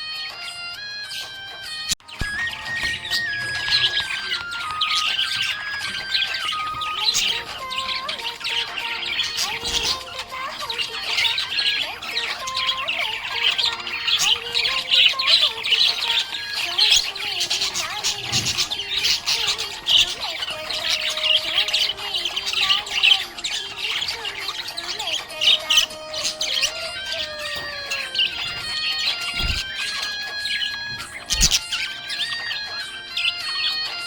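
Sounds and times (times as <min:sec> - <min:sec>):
budgies chirping and chattering: 0:00.0 - 0:34.0.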